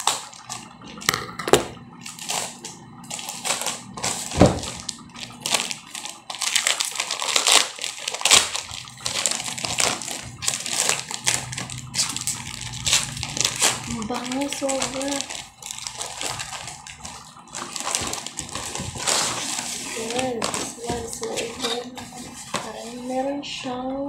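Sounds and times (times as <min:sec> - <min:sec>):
plastic wrapping crinkling and tearing: 0:00.0 - 0:01.1, 0:02.0 - 0:23.3.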